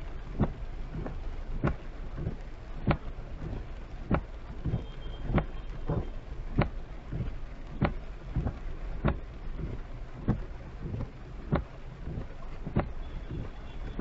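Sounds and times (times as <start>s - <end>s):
road and rain rumble: 0.0s - 14.0s
windshield wipers thumping: 0.0s - 14.0s.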